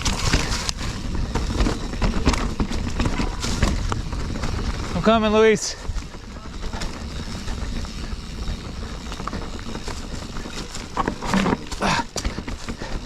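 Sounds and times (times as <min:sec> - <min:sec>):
bike knocks and rattles: 0:00.0 - 0:13.0
bike tyres on rock and dirt: 0:00.0 - 0:13.0.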